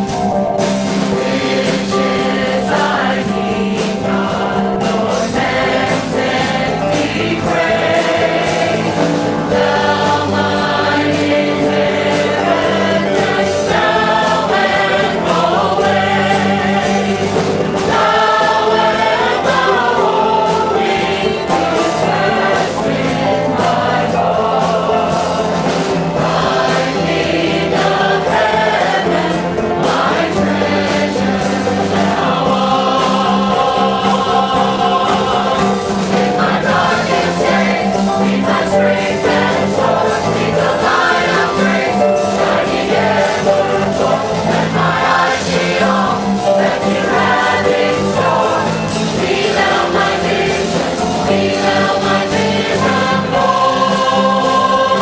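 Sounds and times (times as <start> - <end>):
choir singing a gospel hymn: 0.0 - 55.0
instrumental accompaniment: 0.0 - 55.0.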